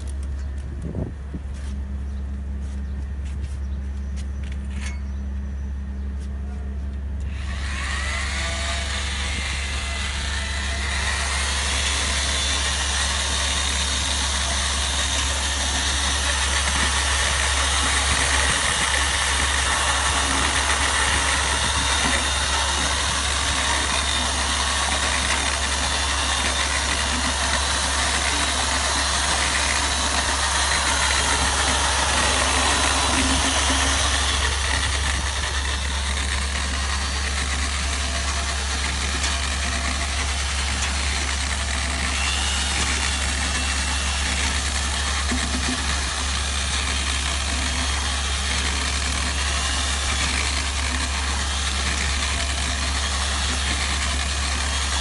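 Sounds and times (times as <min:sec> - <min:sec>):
electric drill mixer whining: 0:07.2 - 0:55.0.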